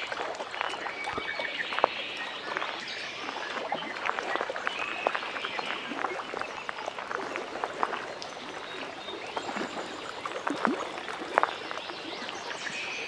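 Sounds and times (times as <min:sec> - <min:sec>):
water lapping at shore: 0:00.0 - 0:13.0.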